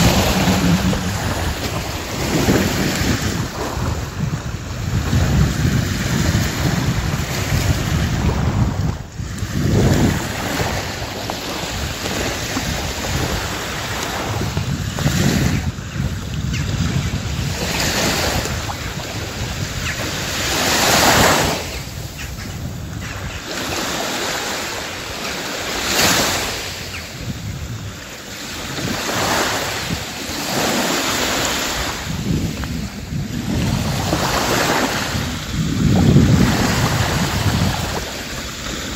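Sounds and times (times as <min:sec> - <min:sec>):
waves washing on a beach: 0:00.0 - 0:38.9.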